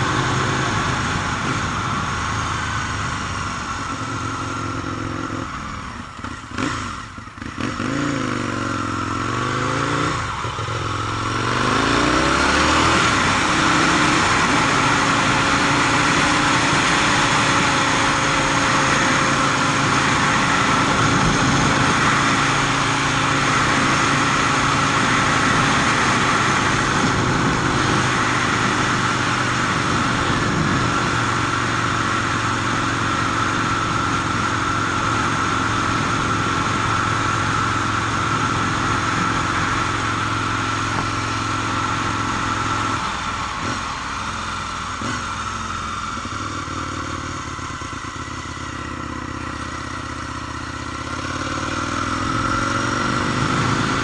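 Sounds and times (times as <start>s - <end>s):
motorcycle engine running: 0.0s - 54.0s
road noise: 0.0s - 54.0s
rushing wind: 0.0s - 54.0s.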